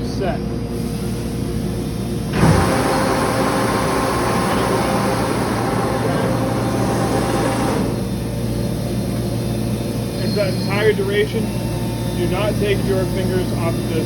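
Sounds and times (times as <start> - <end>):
rushing machine noise: 0.7 - 14.0.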